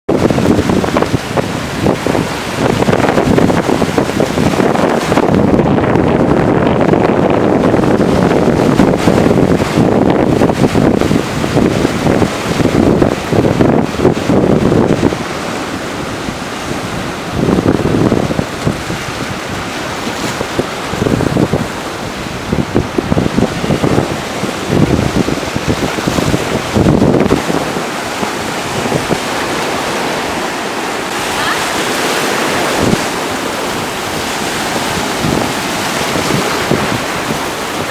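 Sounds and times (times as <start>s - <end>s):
sea waves and surf: 0.1s - 37.9s
wind buffeting microphone: 0.1s - 37.9s.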